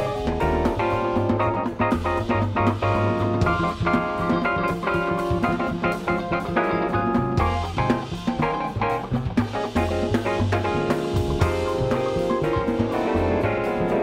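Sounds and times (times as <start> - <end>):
double bass: 0.0 - 14.0
drum kit: 0.0 - 14.0
electric guitar: 0.0 - 14.0
keyboard: 0.0 - 14.0.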